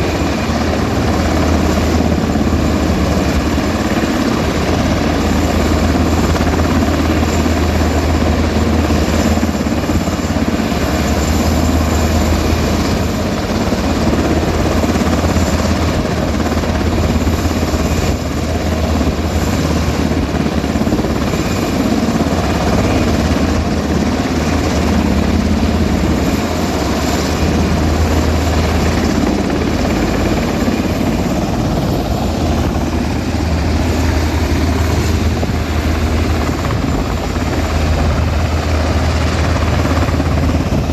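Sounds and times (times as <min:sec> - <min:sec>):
helicopter rotor and engine: 0:00.0 - 0:40.9.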